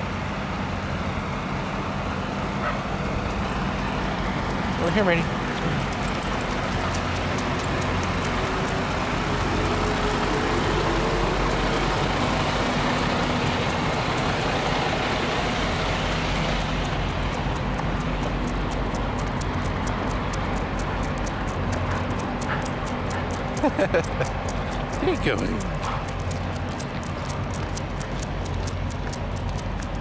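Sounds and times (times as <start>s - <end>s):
large vehicle engine drone: 0.0s - 30.0s.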